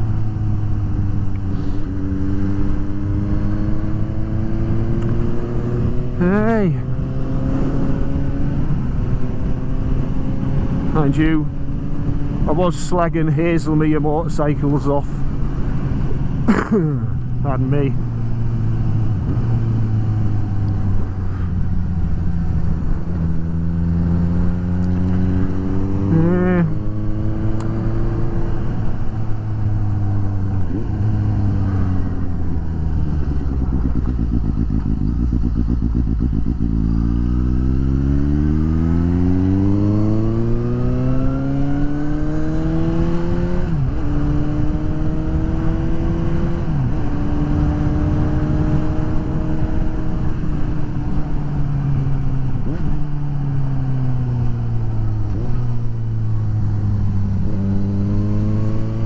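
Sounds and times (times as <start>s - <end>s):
motorcycle engine revving: 0.0s - 59.0s
gear change: 0.1s - 53.6s.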